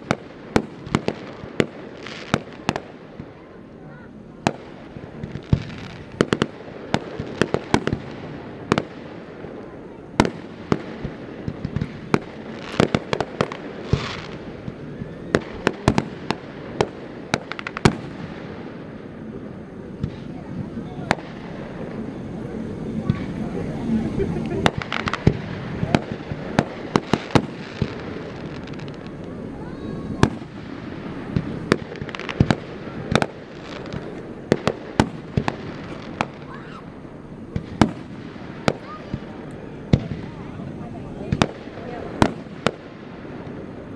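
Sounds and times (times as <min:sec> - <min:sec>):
fireworks bangs: 0:00.0 - 0:43.9
fireworks crackling hiss: 0:00.0 - 0:43.9.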